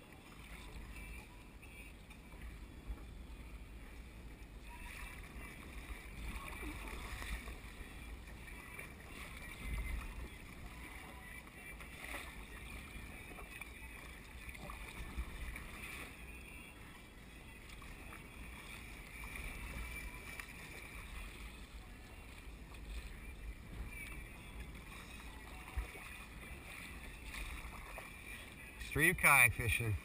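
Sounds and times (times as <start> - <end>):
kayak paddle strokes: 0.0 - 30.0
water washing along a hull: 0.0 - 30.0.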